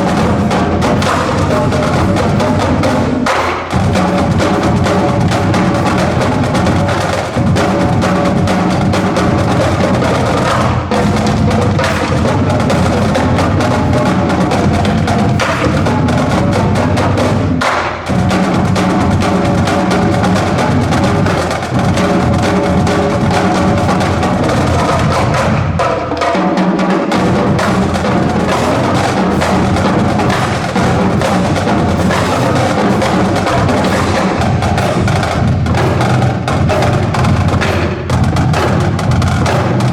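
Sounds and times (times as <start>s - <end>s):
bass drums: 0.0s - 25.8s, 27.1s - 39.9s
snare drum: 0.0s - 39.9s
tenor drums: 0.0s - 39.9s.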